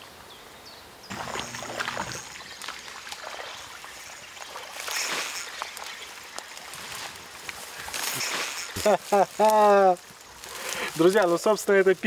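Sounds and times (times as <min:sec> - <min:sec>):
river current trickling: 0:00.9 - 0:12.0.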